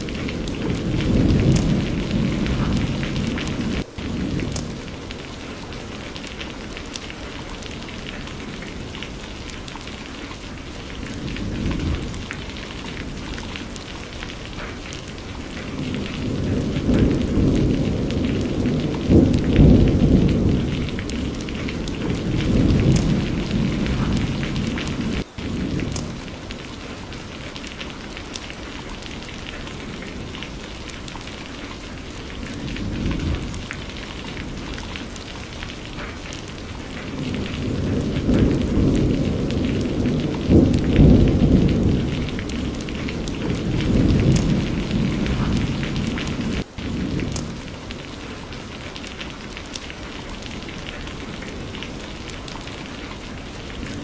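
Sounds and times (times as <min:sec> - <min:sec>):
rolling thunder rumbling: 0:00.0 - 0:54.0
steady rain: 0:00.0 - 0:54.0.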